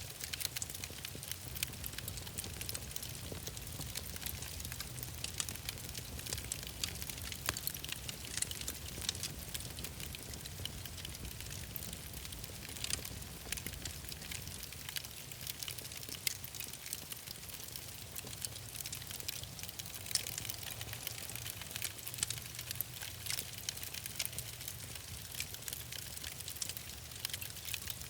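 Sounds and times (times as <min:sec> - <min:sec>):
wood fire crackling and popping: 0:00.0 - 0:28.0
fire low rumble: 0:00.1 - 0:28.0.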